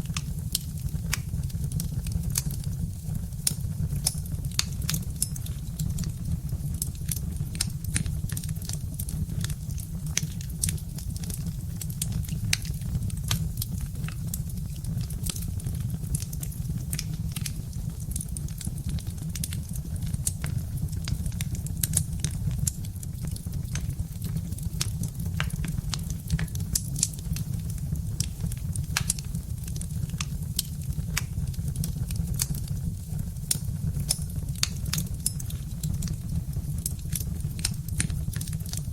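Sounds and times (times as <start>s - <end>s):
fire crackling and popping: 0.0s - 38.9s
low fire rumble: 0.0s - 38.9s.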